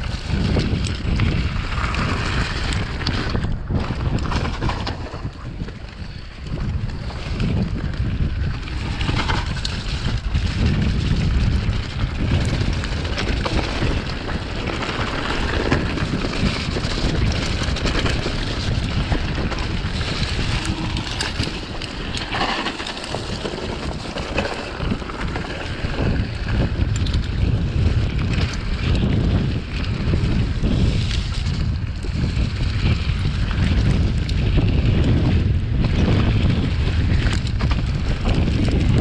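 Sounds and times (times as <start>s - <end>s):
bike rattling and knocking: 0.0s - 39.0s
tyres rumbling on rocky trail: 0.0s - 39.0s
wind buffeting microphone: 0.0s - 39.0s.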